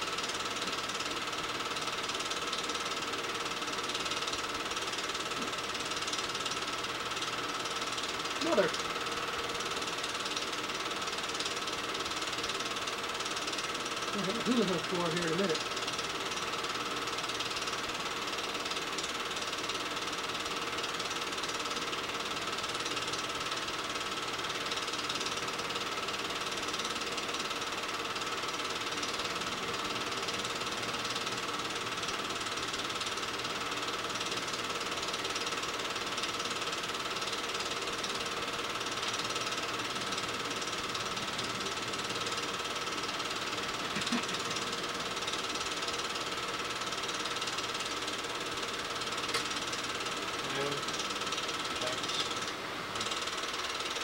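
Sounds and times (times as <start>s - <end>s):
film projector clattering: 0.0s - 54.0s
projector whine: 0.0s - 54.0s.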